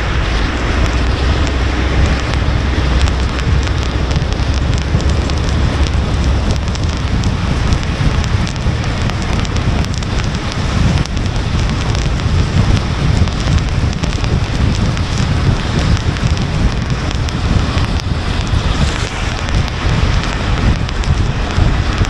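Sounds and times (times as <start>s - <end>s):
raindrops ticking on car: 0.0s - 22.0s
road and wind noise: 0.0s - 22.0s.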